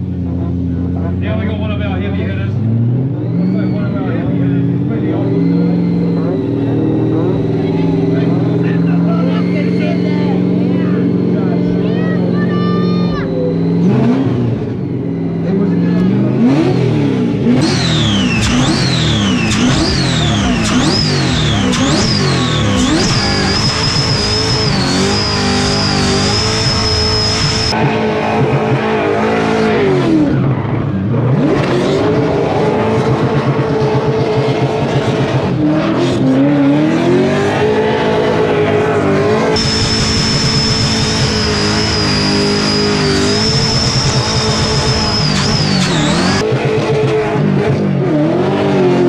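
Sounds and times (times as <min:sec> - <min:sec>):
car engine revving high: 0:00.0 - 0:49.0.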